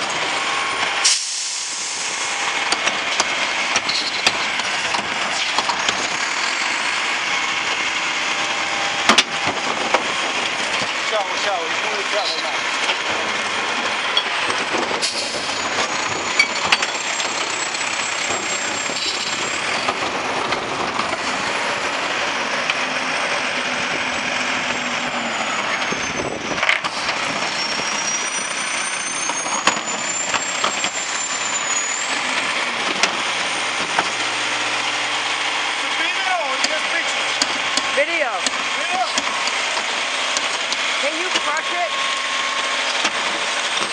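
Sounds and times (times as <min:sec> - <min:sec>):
diesel truck engine running: 0:00.0 - 0:43.9
high engine whine: 0:00.0 - 0:43.9.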